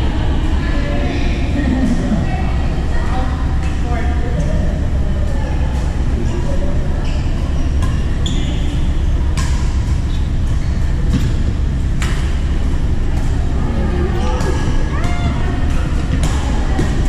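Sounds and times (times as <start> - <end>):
low rumble in hall: 0.0 - 17.0.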